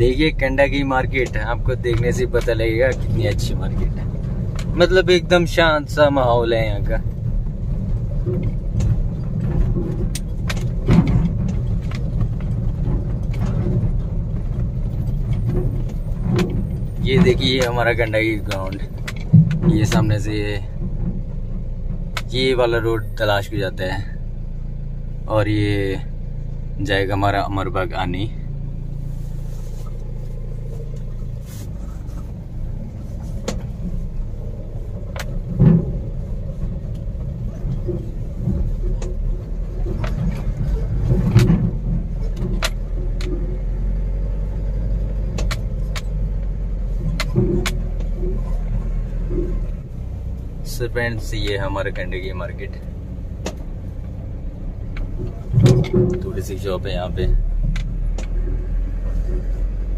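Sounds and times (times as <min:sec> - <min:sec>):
cab rattles and clicks: 0:00.0 - 0:24.0, 0:29.8 - 0:59.9
engine and road rumble: 0:00.0 - 0:59.9.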